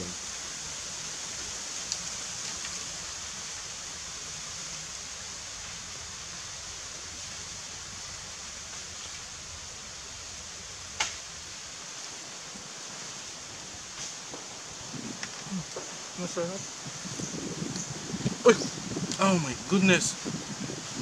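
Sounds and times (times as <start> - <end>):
wind blowing through trees: 0.0 - 21.0.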